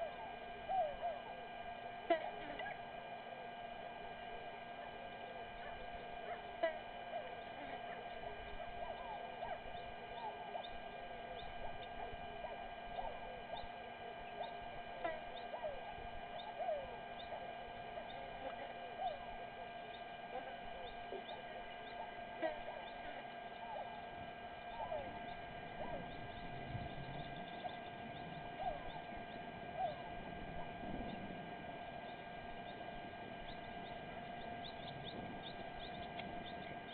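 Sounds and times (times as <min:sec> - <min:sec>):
electrical hum: 0:00.0 - 0:36.9
faint low rumble: 0:00.0 - 0:36.9
small birds chirping: 0:00.0 - 0:36.9.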